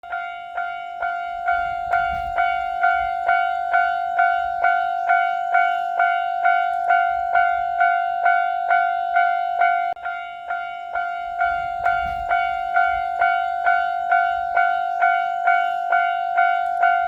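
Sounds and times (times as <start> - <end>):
level crossing bell ringing: 0.0 - 17.0.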